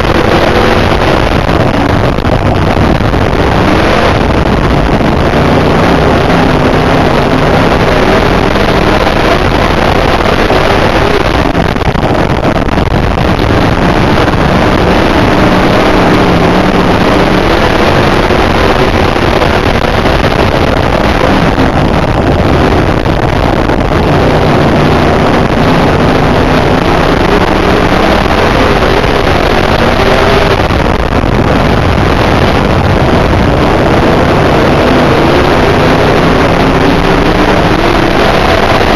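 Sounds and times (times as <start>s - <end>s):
race car engine revving: 0.0s - 38.9s
wind buffeting microphone: 0.0s - 38.9s.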